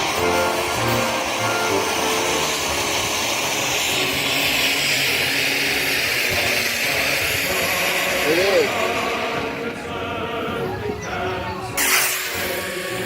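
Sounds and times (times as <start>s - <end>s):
loud hissing spray: 0.0s - 9.5s, 11.8s - 13.0s.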